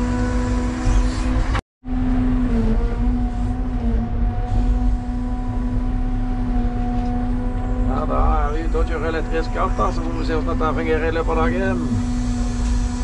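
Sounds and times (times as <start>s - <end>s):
electric motor and pump whining: 0.0s - 13.0s
low rumble: 0.0s - 13.0s.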